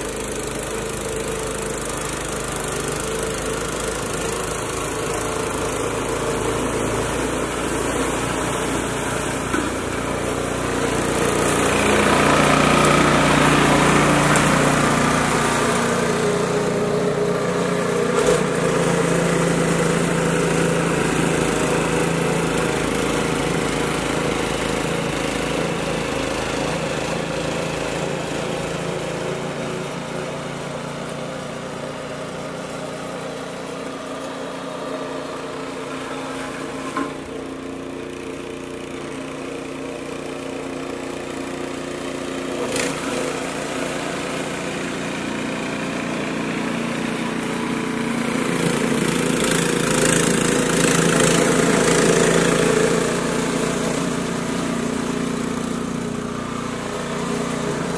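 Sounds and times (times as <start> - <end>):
snowblower engine running: 0.0 - 57.9.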